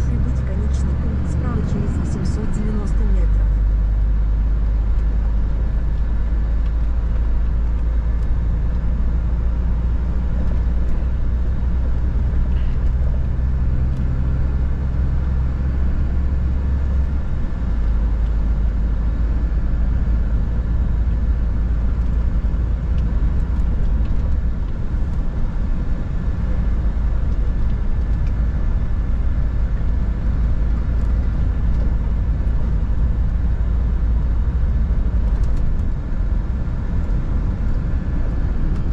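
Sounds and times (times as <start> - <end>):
road noise: 0.0 - 38.9
truck diesel engine drone: 0.0 - 38.9.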